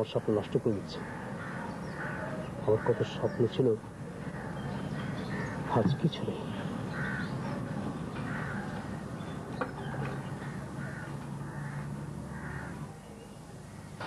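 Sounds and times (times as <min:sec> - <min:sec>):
birds calling: 0:00.0 - 0:14.0
steady low hum: 0:00.0 - 0:14.0.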